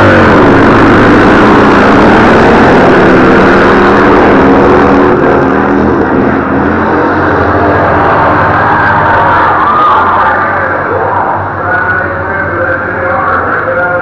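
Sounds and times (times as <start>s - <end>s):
racing motorcycles passing: 0.0s - 14.0s.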